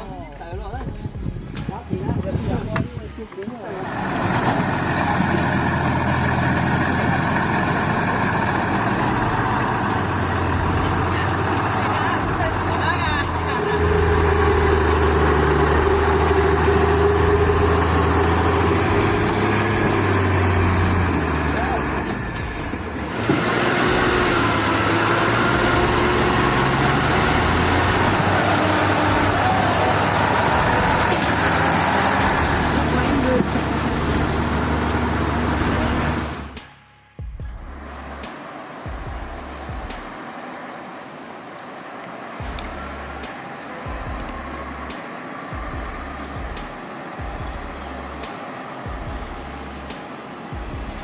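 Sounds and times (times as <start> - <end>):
truck engine droning: 0.0 - 51.0.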